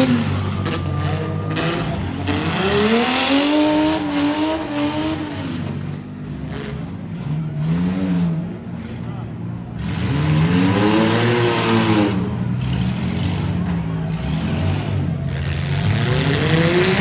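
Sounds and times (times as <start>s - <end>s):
engines revving: 0.0s - 17.0s
vehicles ramming: 0.0s - 17.0s.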